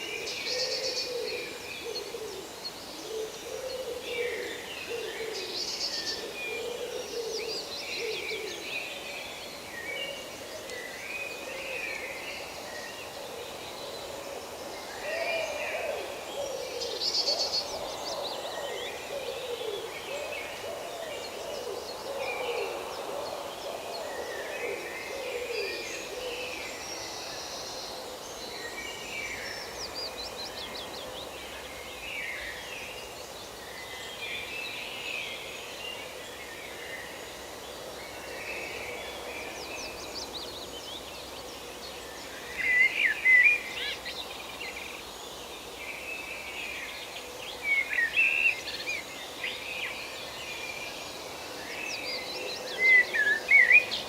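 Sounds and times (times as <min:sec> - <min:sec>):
birds chirping and warbling: 0:00.0 - 0:54.0.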